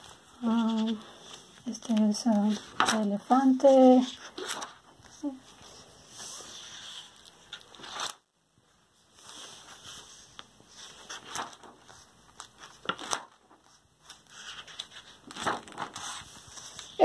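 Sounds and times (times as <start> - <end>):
sketchbook pages rustling: 0.0 - 17.0.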